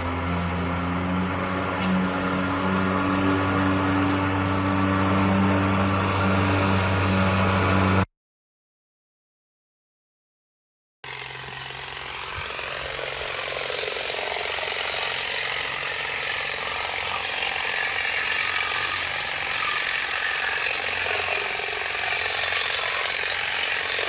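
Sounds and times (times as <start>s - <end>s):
lawn mower cutting grass: 0.0s - 8.1s, 11.0s - 24.0s.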